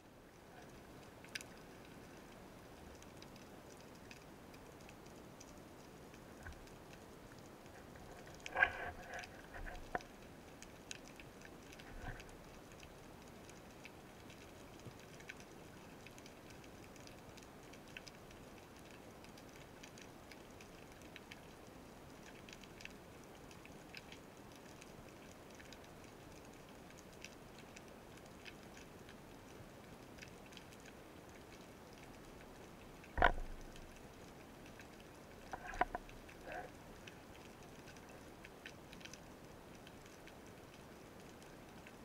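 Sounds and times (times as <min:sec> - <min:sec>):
low steady underwater hiss: 0:00.0 - 0:42.0
faint clicks: 0:00.5 - 0:42.0.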